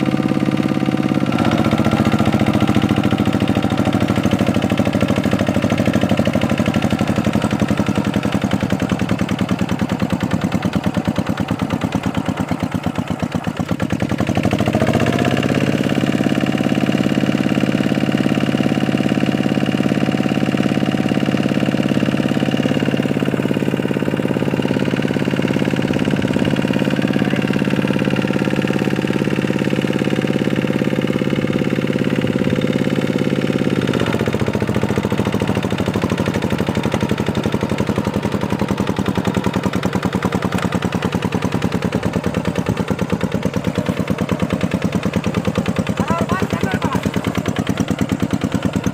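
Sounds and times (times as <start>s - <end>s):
tractor engine revving: 0.0s - 48.9s.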